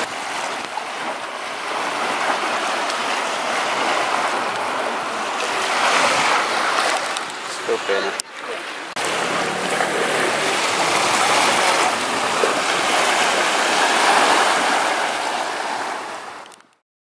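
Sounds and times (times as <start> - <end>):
waves washing onto shore: 0.0 - 16.8.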